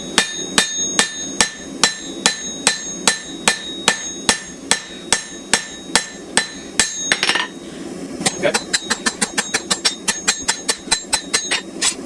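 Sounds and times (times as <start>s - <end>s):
hammer striking metal on anvil: 0.1s - 7.6s, 8.2s - 12.0s.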